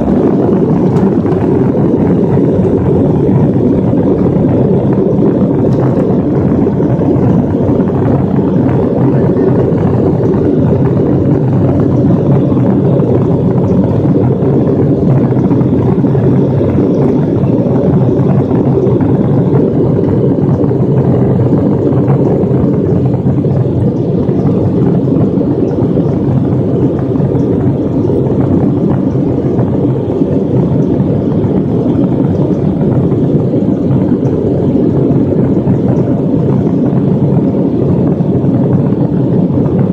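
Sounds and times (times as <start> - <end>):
jet engine and airflow noise: 0.0 - 39.9.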